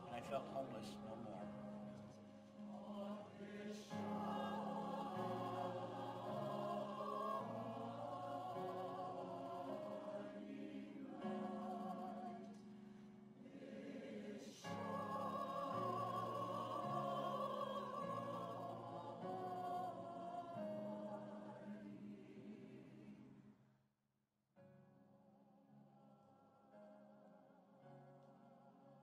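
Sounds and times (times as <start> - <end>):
mixed choir singing: 0.0 - 23.5.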